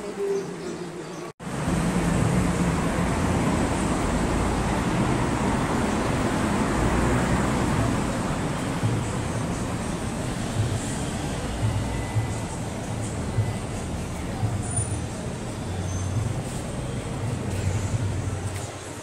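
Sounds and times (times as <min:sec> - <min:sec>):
busy street traffic: 0:00.0 - 0:19.0.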